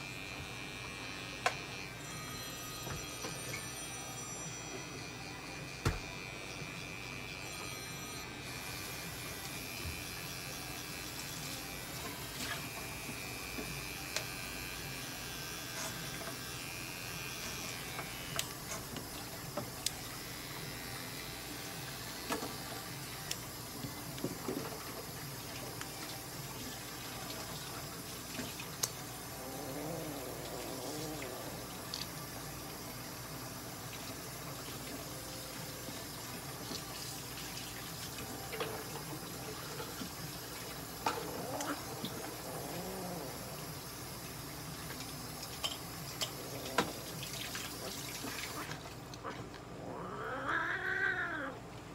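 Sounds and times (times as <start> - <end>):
pet clipper buzzing: 0.0 - 48.6.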